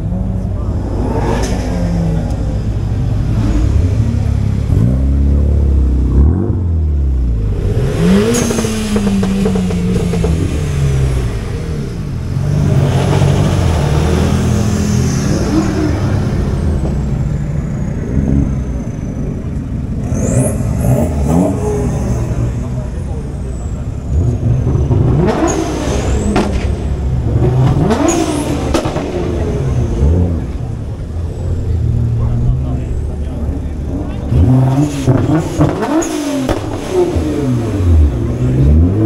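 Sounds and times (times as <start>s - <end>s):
sports car engines revving: 0.0s - 39.0s.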